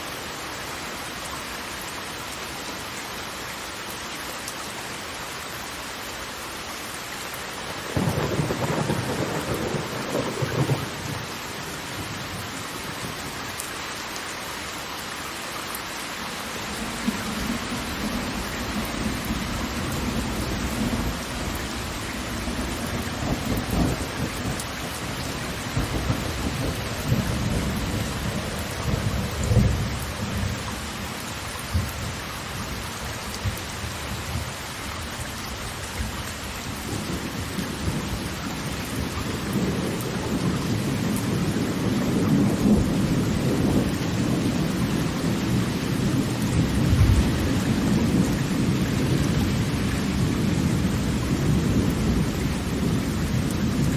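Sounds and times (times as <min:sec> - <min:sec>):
falling water rushing: 0:00.0 - 0:53.9.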